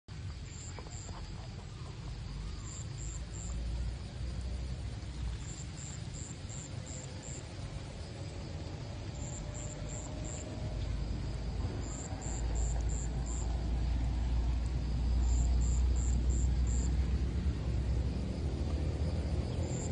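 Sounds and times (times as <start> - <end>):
insect chirping: 0.1 - 19.9
steady low rumble: 0.1 - 19.9.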